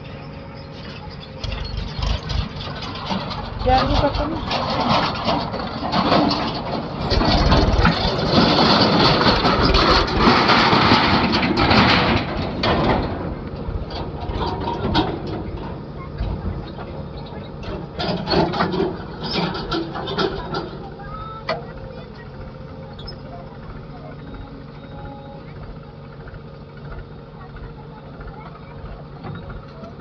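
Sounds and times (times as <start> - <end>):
heavy vehicle engine running: 0.0 - 30.0
scattered knocks and clicks: 0.8 - 24.8, 25.5 - 30.0.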